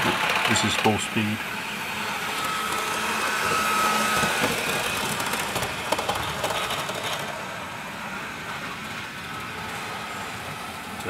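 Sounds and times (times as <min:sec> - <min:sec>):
model train motor whine: 0:00.0 - 0:11.0.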